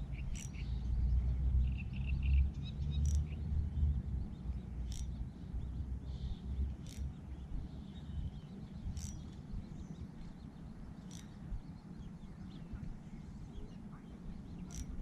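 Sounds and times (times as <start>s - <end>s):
faint bird chirps: 0.0s - 15.0s
steady low rumble: 0.0s - 15.0s.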